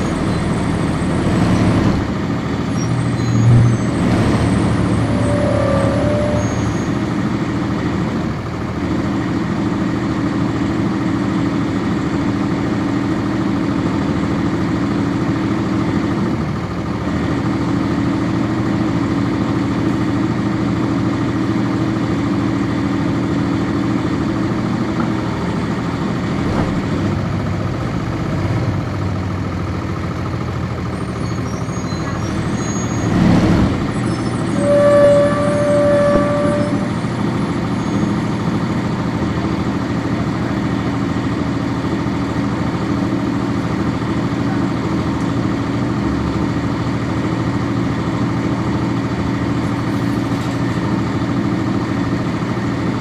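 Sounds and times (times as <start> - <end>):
diesel bus engine droning: 0.0 - 53.0.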